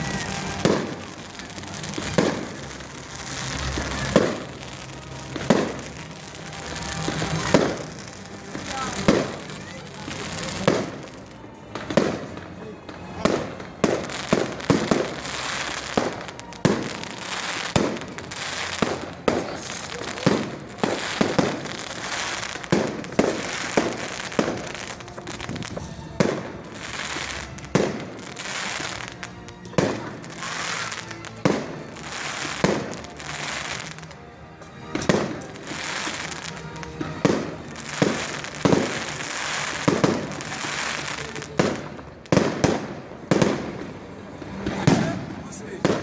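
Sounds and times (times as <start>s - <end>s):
fireworks bangs: 0.0s - 34.2s, 34.9s - 46.0s
fireworks crackling hiss: 0.0s - 46.0s.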